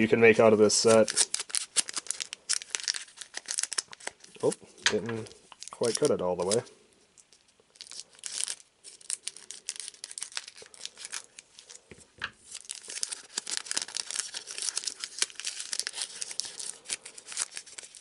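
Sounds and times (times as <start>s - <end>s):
foil wrapper crinkling and tearing: 0.4s - 4.6s, 5.2s - 18.0s.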